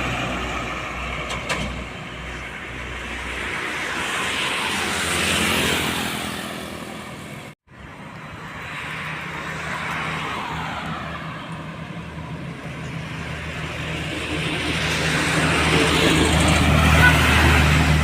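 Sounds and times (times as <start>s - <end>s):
tyre and road noise: 0.0s - 18.0s.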